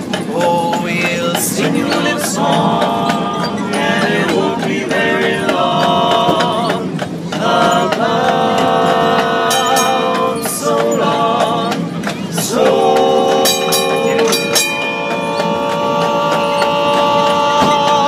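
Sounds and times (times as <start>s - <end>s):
male quartet singing a cappella: 0.1s - 18.0s.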